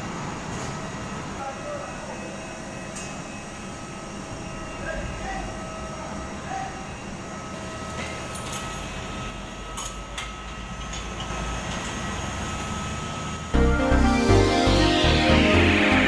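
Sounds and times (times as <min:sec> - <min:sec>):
jet airliner noise and whine: 0:00.0 - 0:16.0.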